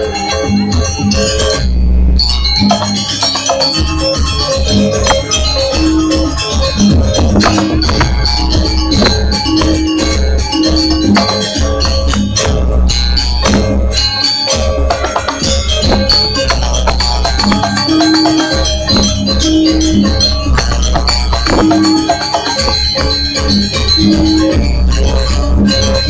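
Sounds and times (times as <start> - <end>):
drums: 0.0 - 26.0
rattling percussion: 0.9 - 26.0
tuned metal percussion notes: 2.2 - 26.0.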